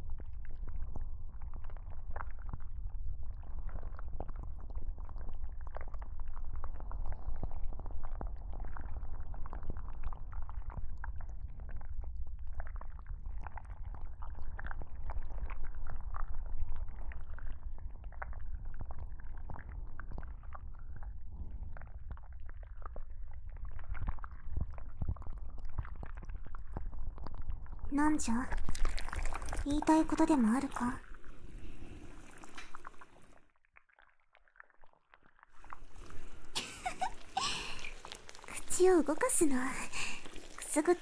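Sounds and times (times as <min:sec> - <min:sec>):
wet squishing and crackling: 0:00.0 - 0:41.0.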